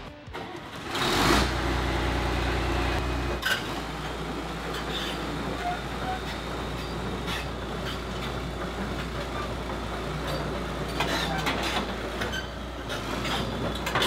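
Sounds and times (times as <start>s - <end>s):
excavator diesel engine running: 0.0s - 14.0s
steel tracks clanking: 0.0s - 14.0s.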